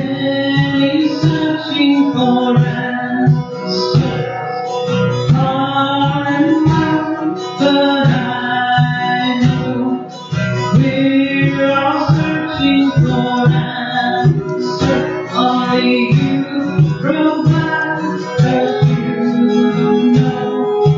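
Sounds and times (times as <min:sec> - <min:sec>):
guitar: 0:00.0 - 0:20.9
person singing: 0:00.0 - 0:20.9.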